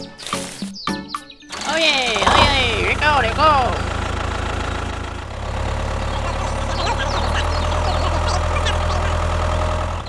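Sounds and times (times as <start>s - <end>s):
tractor engine idling: 1.5s - 10.0s.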